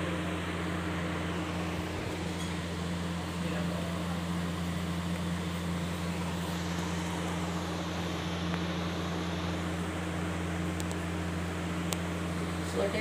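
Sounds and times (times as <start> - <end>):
machine hum with airy hiss: 0.0 - 13.0.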